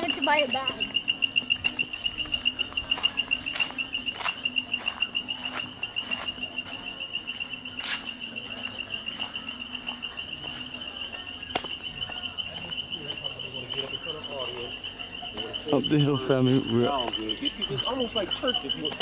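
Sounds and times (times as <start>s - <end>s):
footsteps on stone path: 0.0s - 19.0s
insect trilling: 0.0s - 19.0s.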